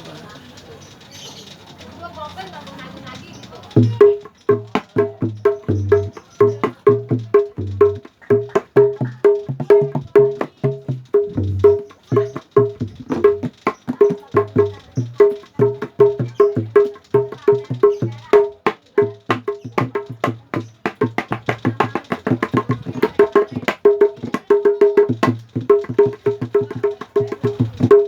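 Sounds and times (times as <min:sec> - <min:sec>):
hand drum played fast: 0:03.8 - 0:28.0.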